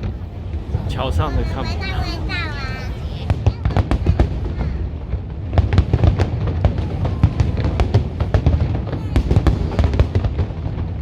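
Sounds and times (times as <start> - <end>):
fireworks cracking: 0.0 - 11.0
low rumble of booms: 0.0 - 11.0.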